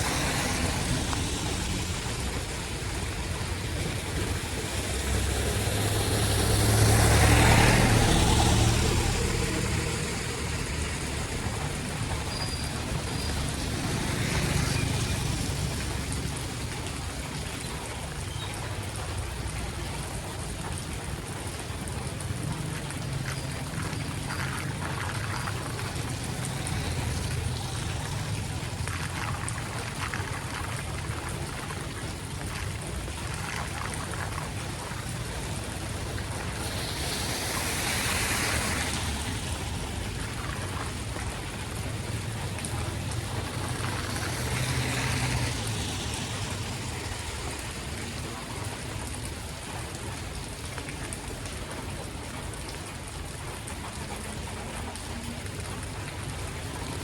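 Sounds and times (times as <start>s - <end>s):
floodwater running on street: 0.0s - 57.0s
rain falling: 0.0s - 57.0s.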